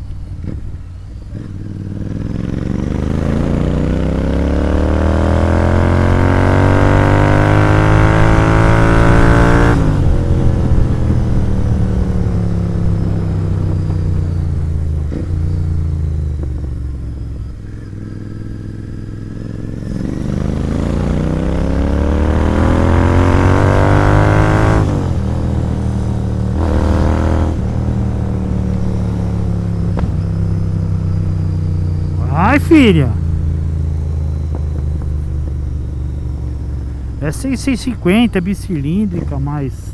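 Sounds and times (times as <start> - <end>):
motorcycle engine revving: 0.3 - 39.7.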